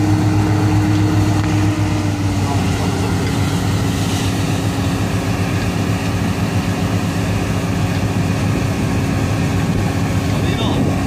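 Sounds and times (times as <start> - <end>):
combine harvester engine and machinery: 0.0 - 11.0.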